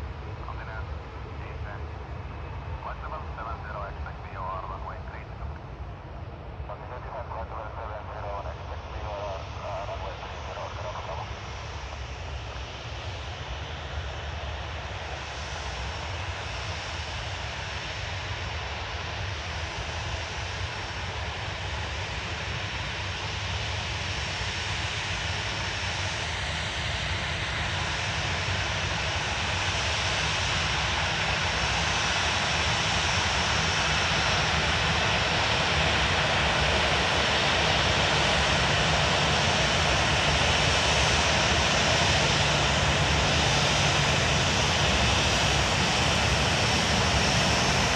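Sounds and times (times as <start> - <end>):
jet engines of approaching airliner: 0.0 - 47.9.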